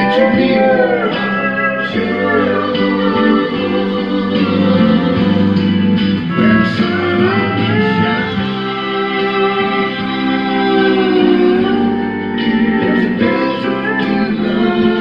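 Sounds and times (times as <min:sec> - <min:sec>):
steel guitar melody: 0:00.0 - 0:15.0.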